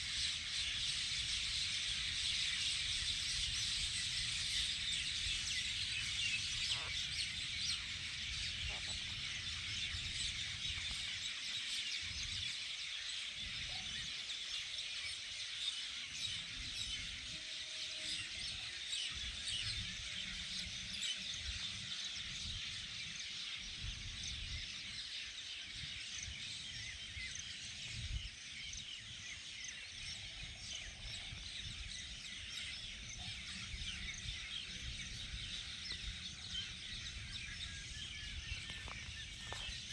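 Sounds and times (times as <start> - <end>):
wind rumble on microphone: 0.0 - 14.6, 16.1 - 39.9
birds chirping chorus: 0.0 - 39.9.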